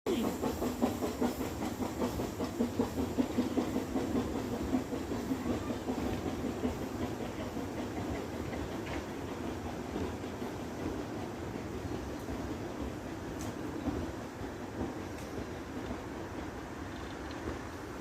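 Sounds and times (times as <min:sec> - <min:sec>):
steam train rhythmic beat: 0:00.1 - 0:16.7
steam hiss: 0:00.1 - 0:18.0.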